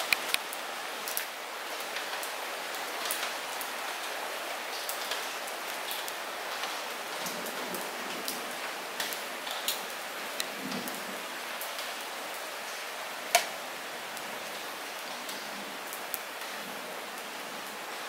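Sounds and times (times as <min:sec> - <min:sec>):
raindrops tapping close by: 0:00.0 - 0:17.8
light rain hiss: 0:00.0 - 0:18.0.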